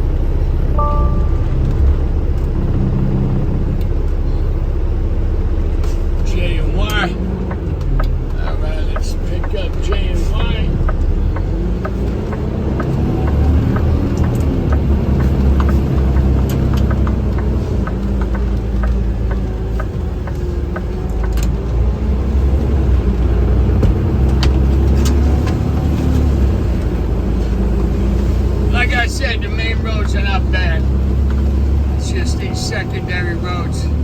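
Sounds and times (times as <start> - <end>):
engine and road noise in cab: 0.0 - 34.0.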